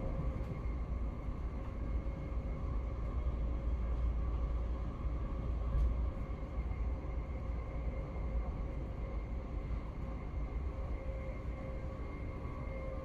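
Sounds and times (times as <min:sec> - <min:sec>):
faint steady whine: 0:00.0 - 0:13.0
train rumbling: 0:00.0 - 0:13.0.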